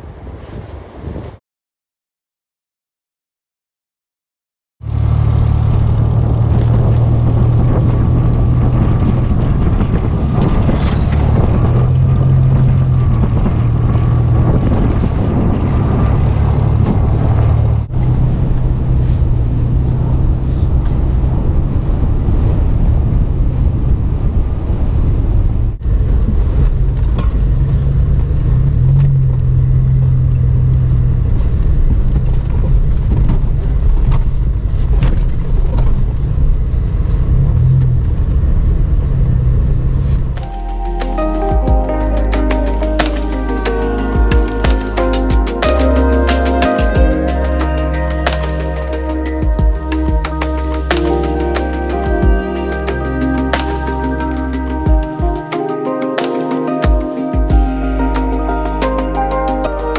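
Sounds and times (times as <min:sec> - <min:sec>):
car engine humming while driving: 0:04.8 - 0:55.6.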